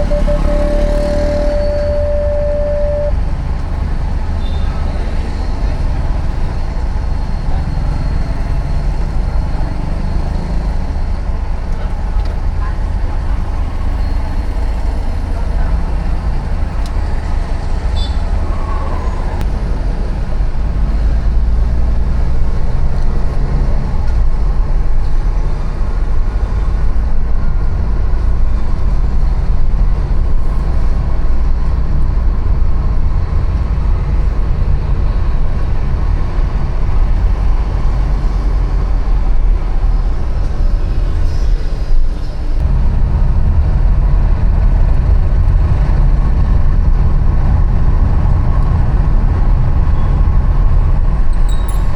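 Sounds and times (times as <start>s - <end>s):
city street traffic rumble: 0.0s - 51.9s.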